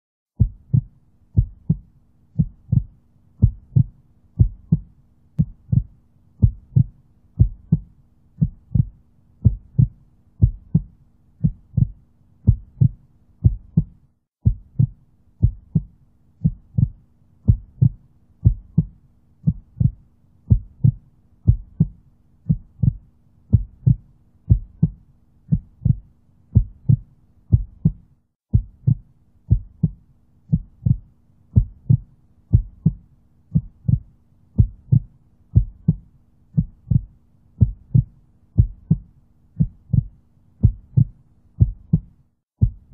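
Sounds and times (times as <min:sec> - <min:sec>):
heartbeat thumping: 0:00.4 - 0:31.0, 0:31.6 - 0:42.9.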